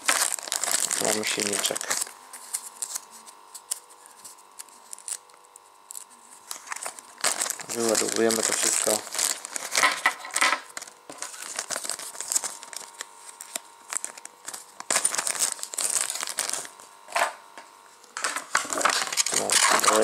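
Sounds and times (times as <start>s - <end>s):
plastic bags crinkling: 0.0s - 17.1s, 18.2s - 20.0s.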